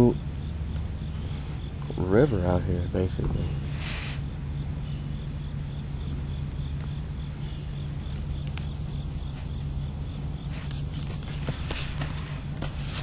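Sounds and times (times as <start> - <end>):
insects chirping: 0.0 - 13.0
low steady rumble: 0.0 - 13.0
steady high buzz: 0.0 - 13.0.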